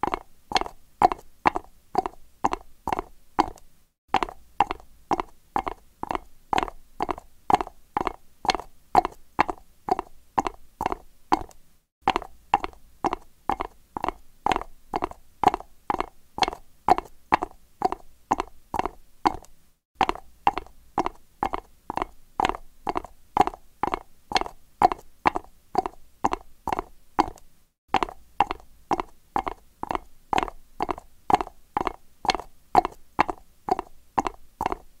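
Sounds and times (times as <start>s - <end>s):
horse hooves trotting on concrete: 0.0s - 35.0s.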